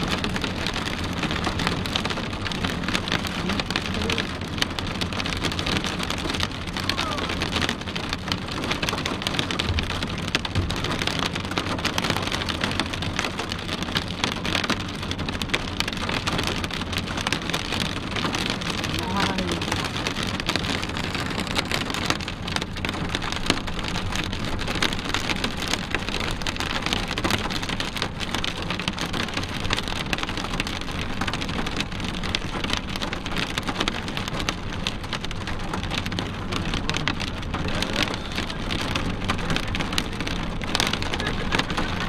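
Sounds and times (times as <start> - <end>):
rain pattering on car windshield: 0.0 - 42.0
road and engine rumble: 0.0 - 42.0.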